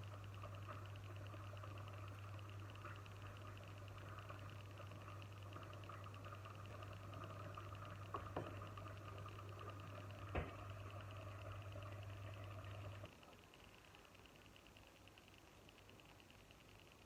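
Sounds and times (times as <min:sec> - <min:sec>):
fast light crackle: 0:00.0 - 0:17.0
small clicks: 0:00.0 - 0:17.0
steady low hum: 0:00.0 - 0:17.0.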